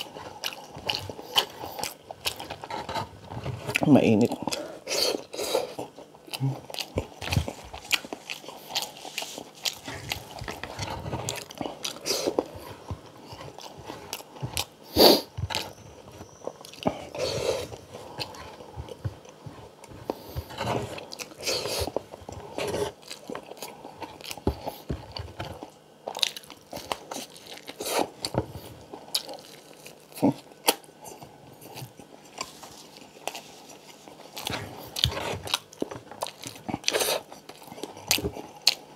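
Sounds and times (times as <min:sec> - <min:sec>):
chewing and mouth smacks: 0:05.2 - 0:14.7, 0:15.5 - 0:38.9.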